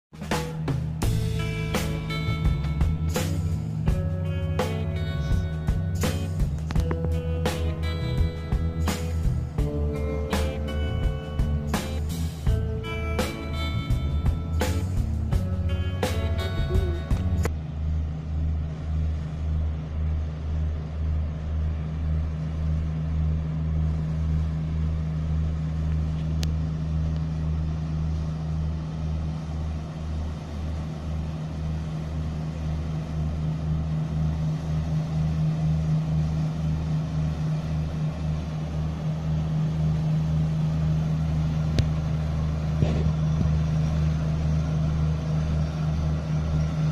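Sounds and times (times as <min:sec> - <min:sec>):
wind: 0:00.0 - 0:46.9
boat engine throbbing: 0:00.1 - 0:46.9.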